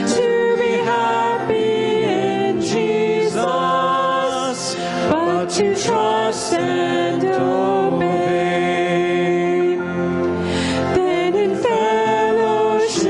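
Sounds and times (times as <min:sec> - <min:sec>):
vocal group singing hymn: 0:00.0 - 0:13.0.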